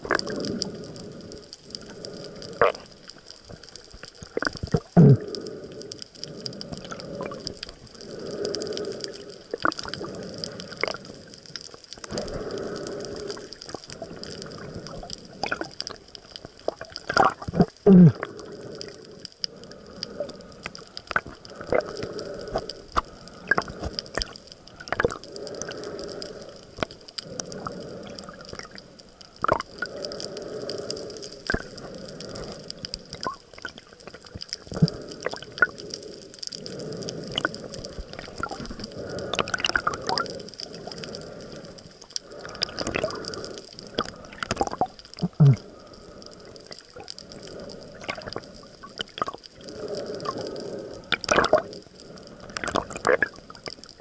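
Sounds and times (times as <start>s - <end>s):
muffled water swishing underwater: 0.0s - 54.0s
sharp clicks and crackles: 0.0s - 54.0s.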